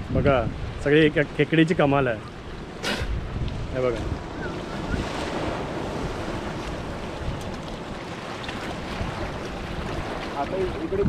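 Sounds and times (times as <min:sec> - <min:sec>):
sea waves surging over rocks: 0:00.0 - 0:11.0
wind rumbling on microphone: 0:00.0 - 0:11.0.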